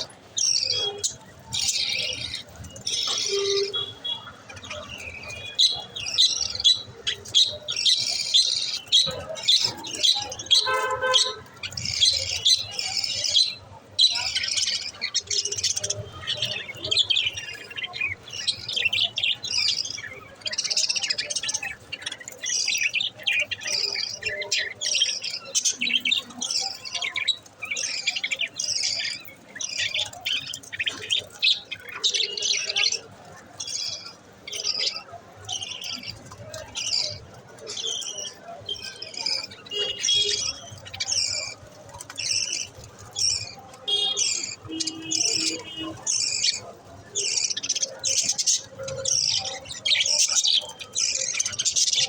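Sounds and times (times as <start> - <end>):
budgerigars chattering: 0.0 - 52.0.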